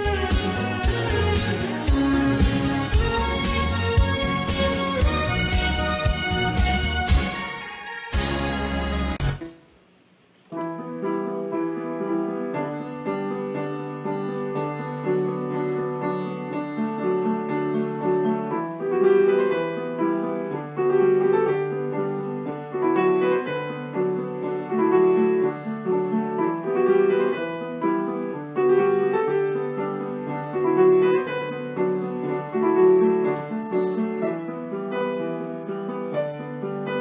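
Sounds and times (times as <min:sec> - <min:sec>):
piano music: 0:00.0 - 0:09.6, 0:10.5 - 0:37.0.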